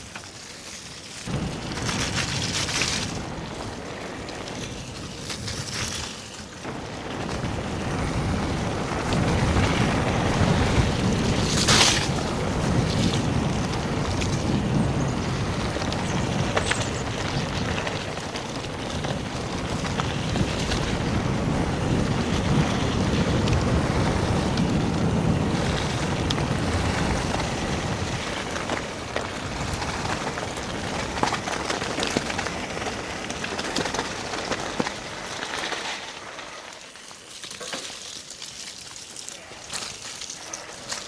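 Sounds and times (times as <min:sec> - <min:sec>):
bike knocks and rattles: 0:00.0 - 0:35.8
bike tyres through wet mud: 0:00.0 - 0:41.0
wind buffeting microphone: 0:01.3 - 0:35.2.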